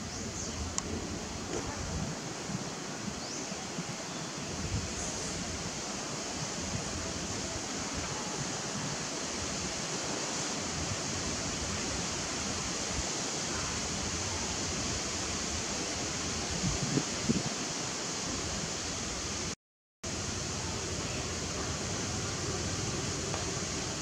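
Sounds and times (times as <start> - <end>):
low wind buffets: 0.0 - 19.5
rushing wind: 0.0 - 24.0.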